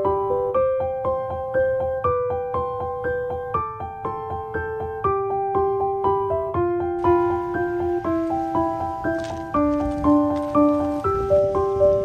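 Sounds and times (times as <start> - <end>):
keyboard background music: 0.0 - 12.0.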